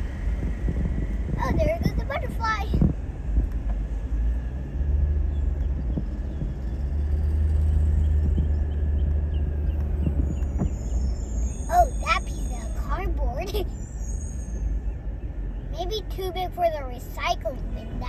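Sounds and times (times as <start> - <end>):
truck diesel engine rumbling: 0.0 - 18.0.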